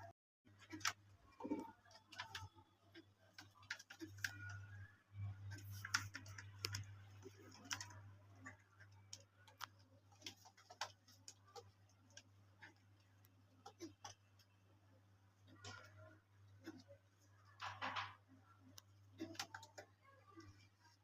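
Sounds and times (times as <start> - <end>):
faint clicks and taps: 0.5 - 14.8, 15.4 - 21.0.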